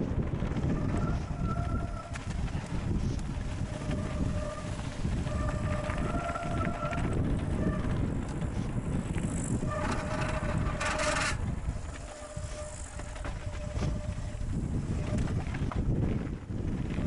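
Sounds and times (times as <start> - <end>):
bike tyre rumble on gravel: 0.0 - 17.0
wind buffeting microphone: 0.0 - 17.0
freewheel buzzing: 0.2 - 17.0.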